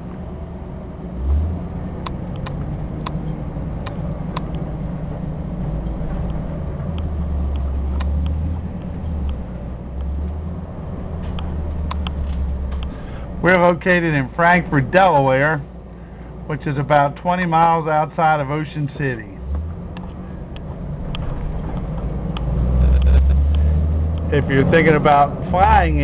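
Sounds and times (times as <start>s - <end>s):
van engine and road rumble: 0.0s - 26.0s.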